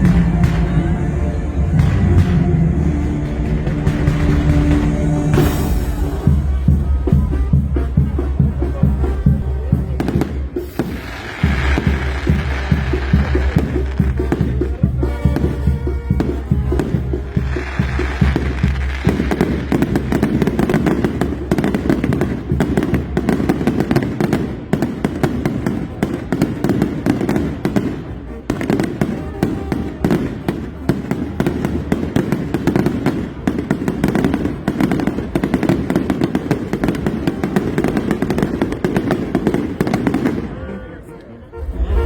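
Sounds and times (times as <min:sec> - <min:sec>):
fireworks popping and banging: 0:00.0 - 0:40.8.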